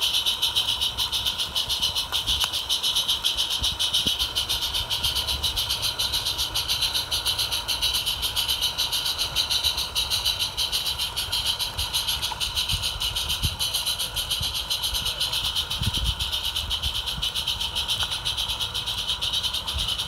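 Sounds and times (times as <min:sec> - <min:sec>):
model steam locomotive chuffing: 0:00.0 - 0:20.0
steam hiss: 0:00.0 - 0:20.0.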